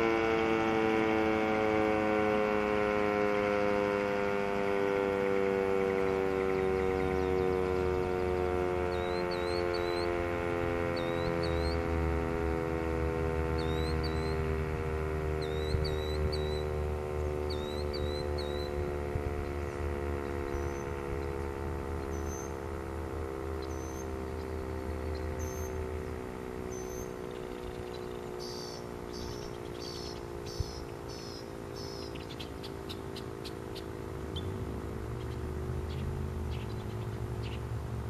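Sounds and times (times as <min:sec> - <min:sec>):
warning siren steady tone: 0:00.0 - 0:38.0
birds chirping: 0:04.5 - 0:37.9.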